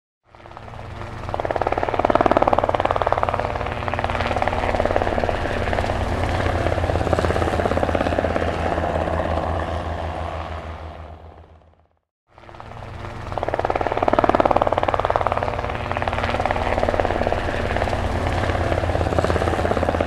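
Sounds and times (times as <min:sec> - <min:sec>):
helicopter rotor chop: 0:00.2 - 0:20.0.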